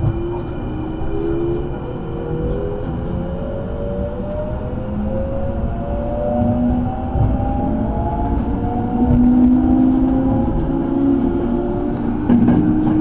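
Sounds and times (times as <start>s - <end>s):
electric train motors humming: 0.0s - 13.0s.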